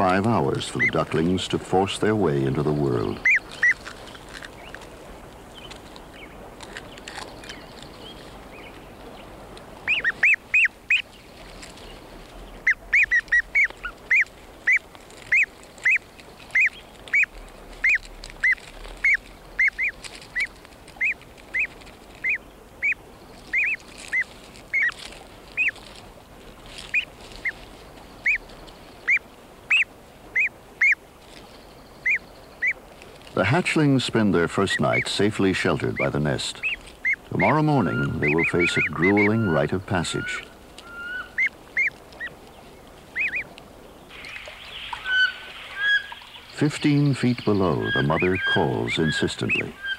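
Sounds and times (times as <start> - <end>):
ducklings peeping: 0.0 - 25.9, 26.6 - 49.9.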